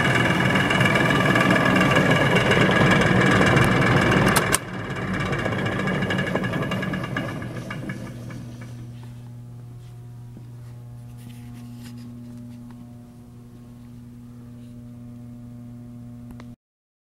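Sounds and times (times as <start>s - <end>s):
electric motor humming: 0.0s - 16.6s.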